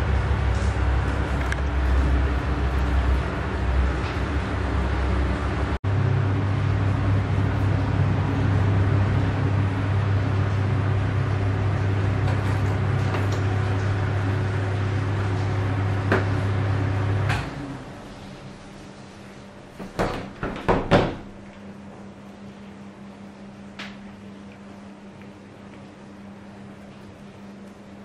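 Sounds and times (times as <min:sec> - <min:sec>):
exhaust fan running: 0:00.0 - 0:28.0.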